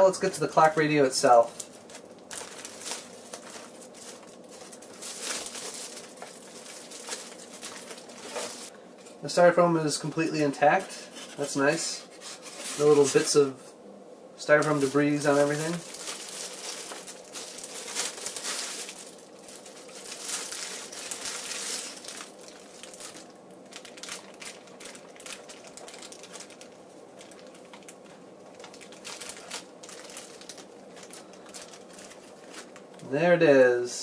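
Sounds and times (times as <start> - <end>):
plastic bag crinkling: 0.1 - 8.8, 10.7 - 13.5, 14.5 - 33.1.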